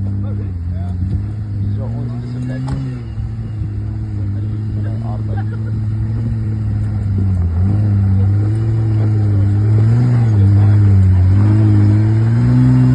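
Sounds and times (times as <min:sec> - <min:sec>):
engine pulling at low revs: 0:00.0 - 0:12.9.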